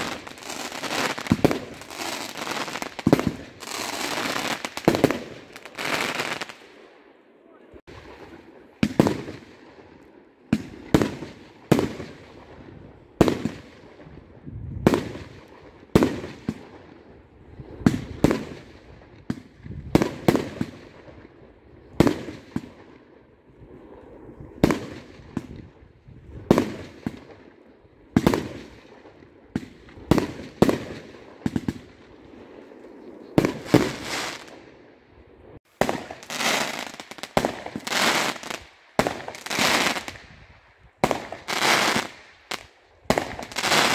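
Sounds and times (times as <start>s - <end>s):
fireworks crackling: 0.0s - 7.0s, 7.7s - 43.9s
fireworks bursting: 0.0s - 7.1s, 7.8s - 43.9s.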